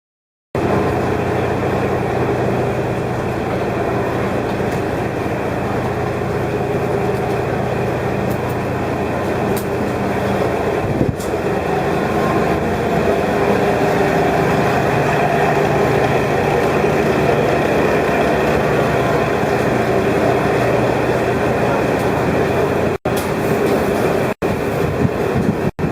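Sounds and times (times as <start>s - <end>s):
railcar engine hum and rumble: 0.6s - 25.9s.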